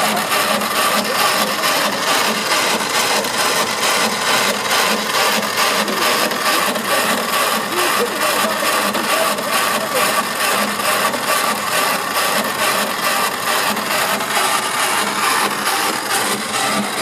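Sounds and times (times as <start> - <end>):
boring machine scraping and grinding: 0.0 - 17.0.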